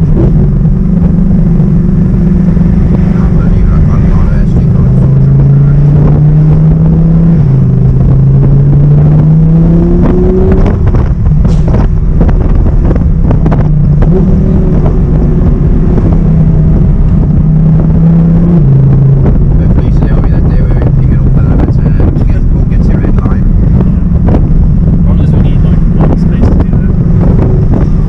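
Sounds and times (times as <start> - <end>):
car engine revving through gears: 0.0 - 28.0
exhaust crackles and pops: 0.0 - 28.0.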